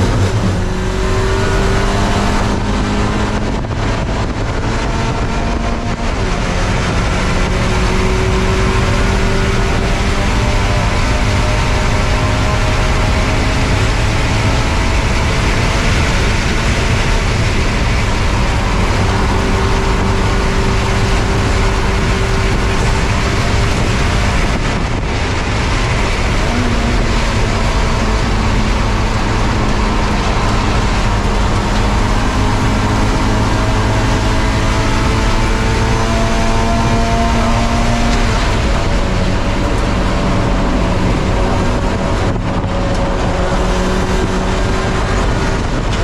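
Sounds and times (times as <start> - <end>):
car engine at high revs: 0.0 - 46.0
road noise: 0.0 - 46.0
wind noise: 0.0 - 46.0.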